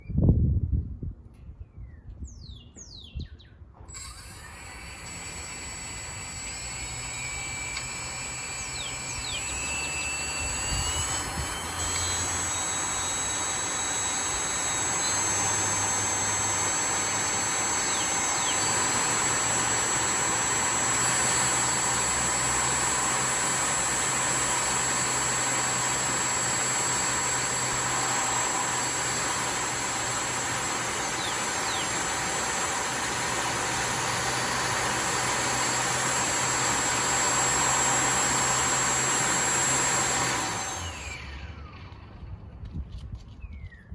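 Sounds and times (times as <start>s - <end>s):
electric jet engine whine: 3.9s - 42.3s.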